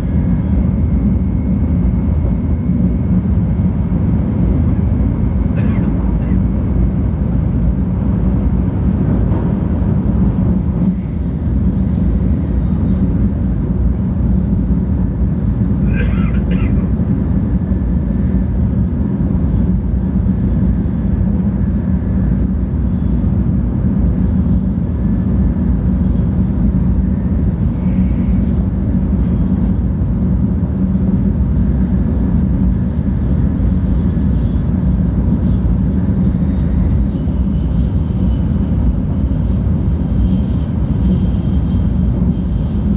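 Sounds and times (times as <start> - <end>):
train rumbling on track: 0.0 - 42.9.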